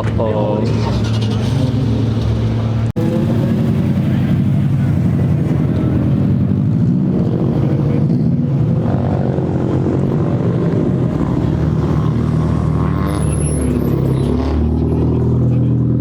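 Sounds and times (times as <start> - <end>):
car engine with pulsing exhaust: 0.0 - 16.0.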